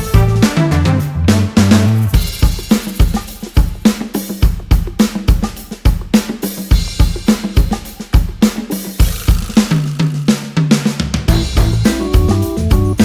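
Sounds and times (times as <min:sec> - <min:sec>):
drum beat: 0:00.0 - 0:13.0.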